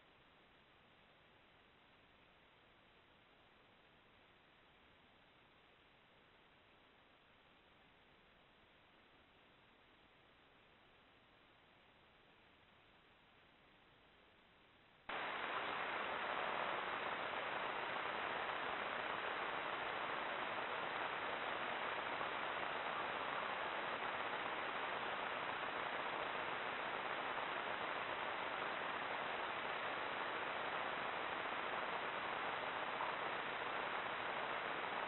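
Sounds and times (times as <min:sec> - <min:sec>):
microphone hiss: 0:00.0 - 0:35.0.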